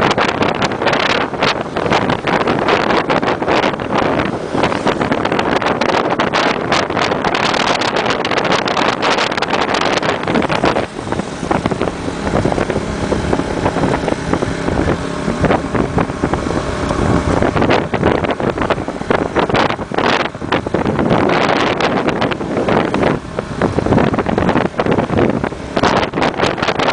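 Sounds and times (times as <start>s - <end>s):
motorbike engine running: 0.0s - 26.9s
wind buffeting microphone: 0.0s - 26.9s.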